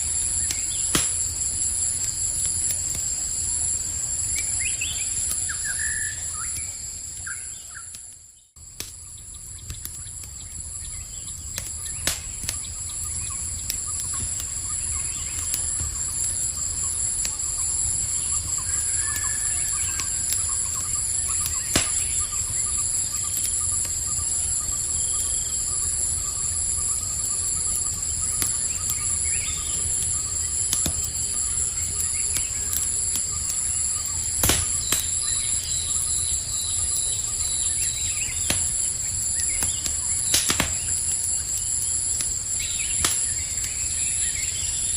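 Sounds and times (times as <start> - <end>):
campfire crackling: 0.0 - 44.9
high-pitched insect chorus: 0.0 - 44.9.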